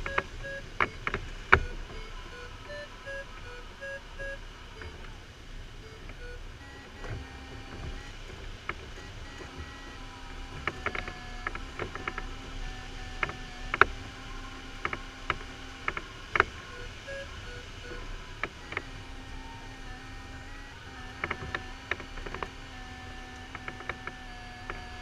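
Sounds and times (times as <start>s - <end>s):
cockpit fittings clicking and creaking: 0.0s - 3.8s, 5.9s - 19.1s, 19.9s - 25.0s
faint held tones: 0.0s - 25.0s.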